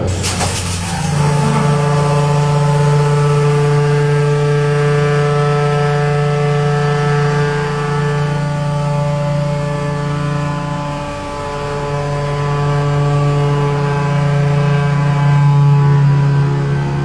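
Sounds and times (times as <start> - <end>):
truck diesel engine under load: 0.0 - 17.0.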